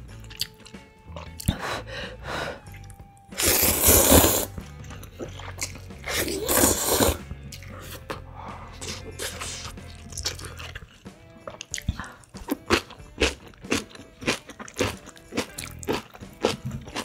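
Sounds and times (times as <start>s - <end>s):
chewing and mouth noises: 0.2s - 1.6s, 2.6s - 17.0s
noodles slurped: 2.6s - 17.0s.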